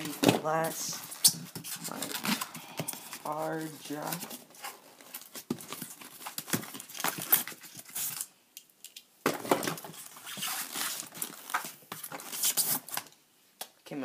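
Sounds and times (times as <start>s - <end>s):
plastic packaging rustling and clattering: 0.0s - 13.2s.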